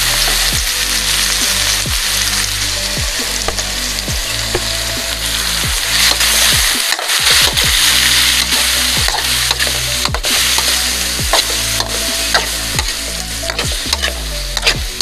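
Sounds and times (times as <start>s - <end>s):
electronic background music: 0.0s - 15.0s
food frying in hot oil: 0.0s - 15.0s.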